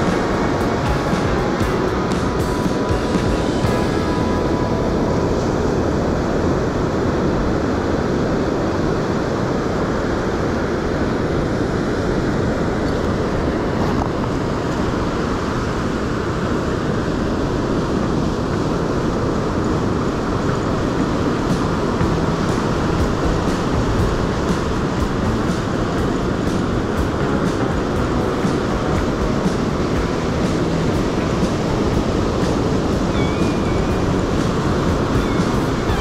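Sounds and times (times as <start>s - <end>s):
surf on beach: 0.0s - 36.0s
wind on microphone: 0.0s - 36.0s.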